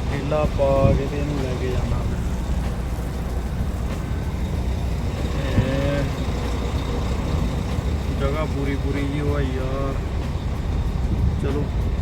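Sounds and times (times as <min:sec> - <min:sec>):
diesel truck engine rumbling: 0:00.0 - 0:12.0
low tonal hum: 0:00.0 - 0:12.0.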